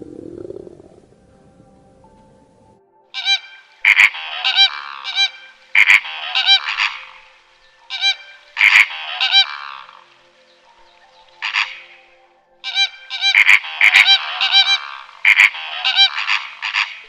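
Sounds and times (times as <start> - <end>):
animal calling: 3.1 - 17.0.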